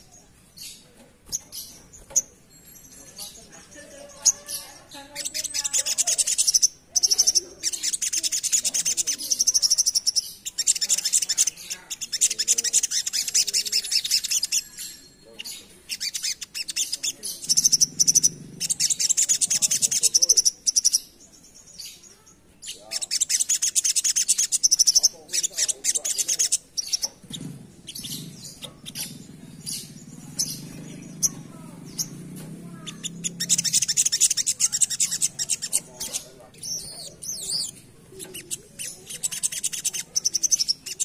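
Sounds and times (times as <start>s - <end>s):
bird rapid chattering song: 0.0s - 41.0s.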